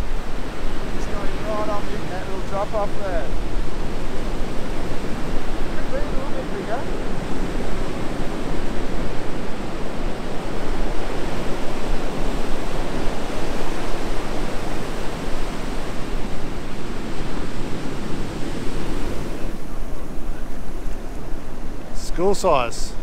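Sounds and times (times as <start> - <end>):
surf: 0.0 - 23.0
wind: 0.0 - 23.0.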